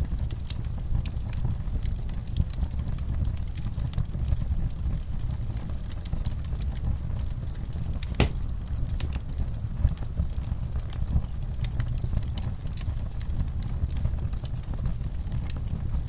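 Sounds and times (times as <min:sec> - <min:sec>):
fire crackling in fireplace: 0:00.0 - 0:16.0.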